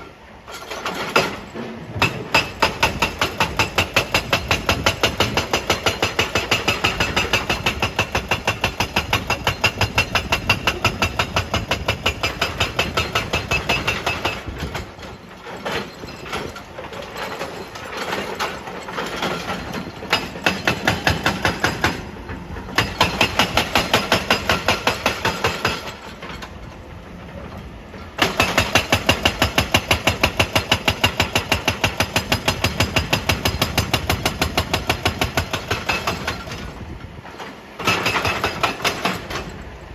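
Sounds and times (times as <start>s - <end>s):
hydraulic rock breaker hammering stone: 0.5s - 39.8s.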